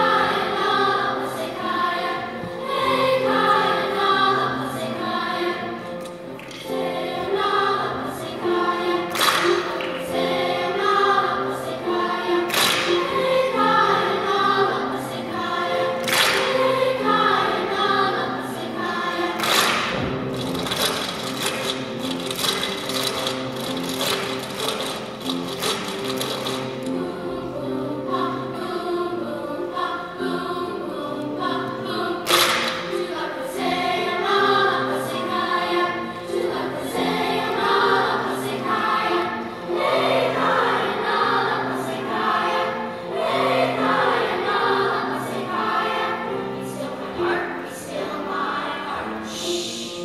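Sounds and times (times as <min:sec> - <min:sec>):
children's choir singing: 0:00.0 - 0:50.0.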